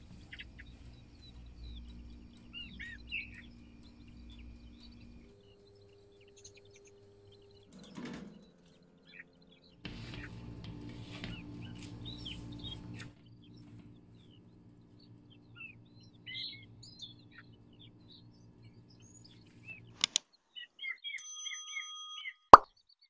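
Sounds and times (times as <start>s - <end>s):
low steady hum: 0.0s - 7.8s, 8.8s - 20.0s
birds chirping: 0.0s - 23.0s.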